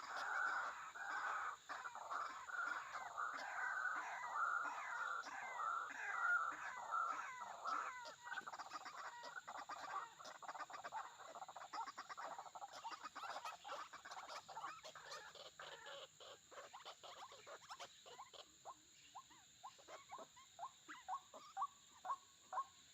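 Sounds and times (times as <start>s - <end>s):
waterhens croaking calls: 0.0s - 18.6s
high hum of insects: 0.0s - 22.9s.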